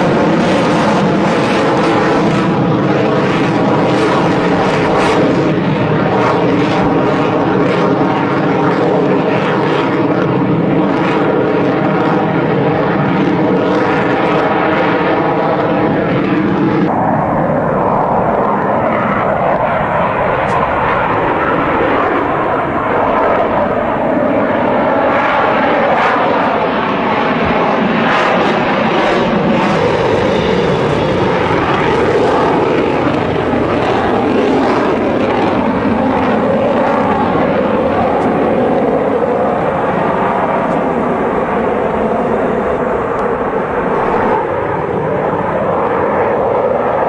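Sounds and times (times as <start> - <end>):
jets flying past: 0.0 - 47.0.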